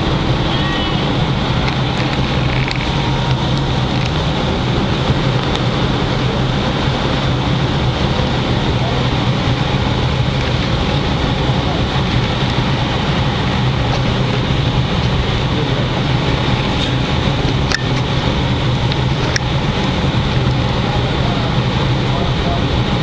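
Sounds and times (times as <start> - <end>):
train hum and rumble: 0.0 - 23.0.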